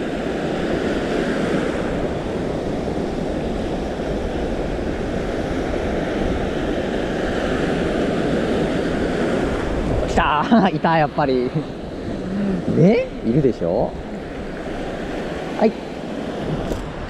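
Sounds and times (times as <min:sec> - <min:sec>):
surf rushing: 0:00.0 - 0:17.0
wind buffeting microphone: 0:00.0 - 0:17.0.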